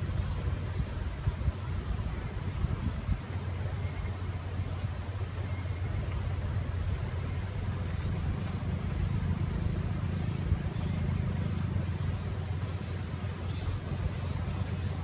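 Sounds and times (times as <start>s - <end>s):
trees rustling in wind: 0.0s - 15.0s
wind buffeting microphone: 0.0s - 15.0s.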